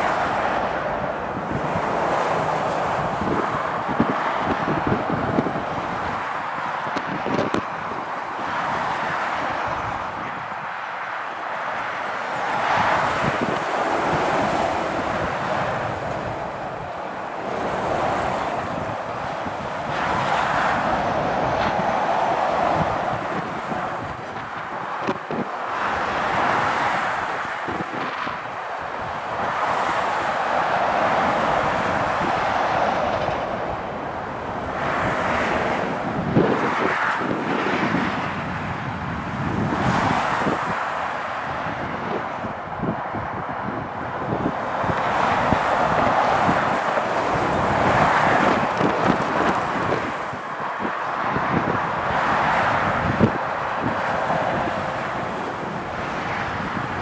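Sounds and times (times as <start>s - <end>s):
wind on microphone: 0.0s - 10.8s, 11.8s - 57.0s
motorway traffic roar: 0.0s - 57.0s
vehicles passing at speed: 0.0s - 57.0s.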